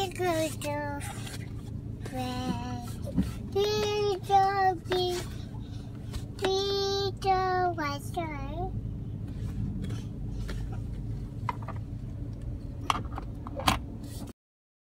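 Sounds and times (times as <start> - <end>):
low steady car cabin hum: 0.0 - 14.3.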